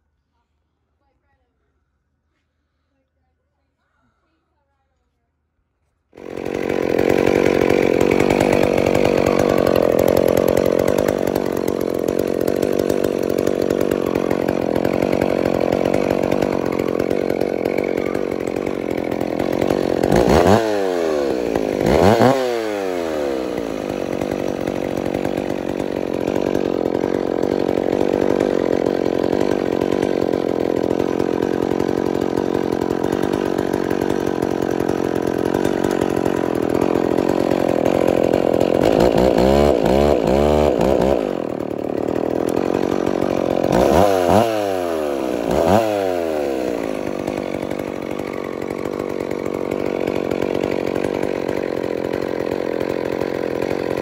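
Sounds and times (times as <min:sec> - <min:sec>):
chainsaw engine running: 0:06.1 - 0:54.0.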